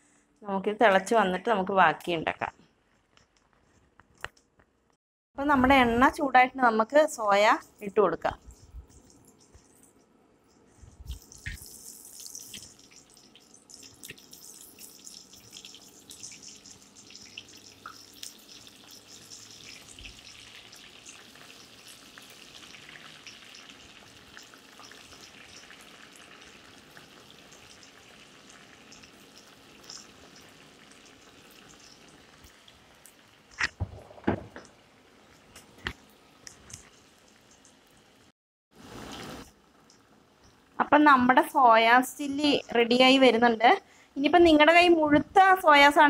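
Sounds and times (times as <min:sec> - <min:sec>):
food deep-frying in oil: 0:05.7 - 0:43.6.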